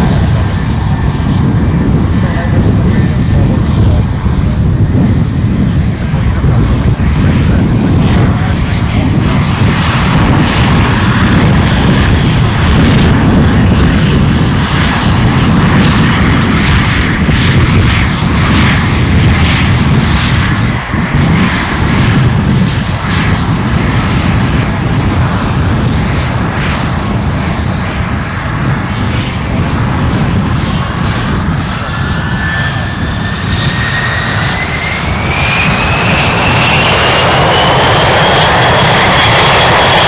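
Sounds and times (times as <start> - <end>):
aircraft engines running: 0.0 - 40.0.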